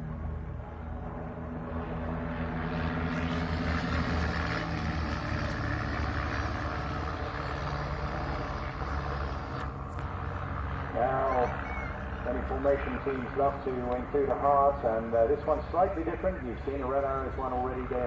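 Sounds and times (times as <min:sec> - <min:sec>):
propeller aircraft flying past: 0:00.0 - 0:18.0.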